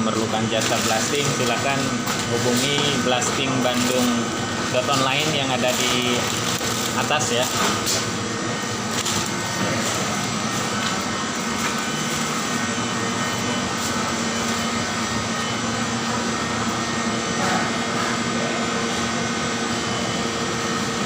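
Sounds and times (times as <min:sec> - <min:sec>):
refrigeration machinery drone: 0:00.0 - 0:21.0.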